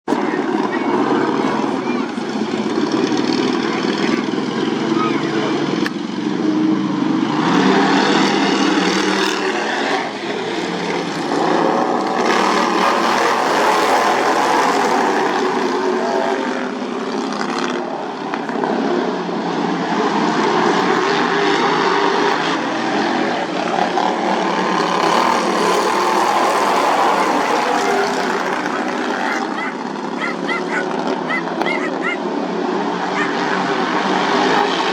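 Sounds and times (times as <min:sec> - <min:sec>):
racing lawn mower engines buzzing: 0:00.0 - 0:34.9.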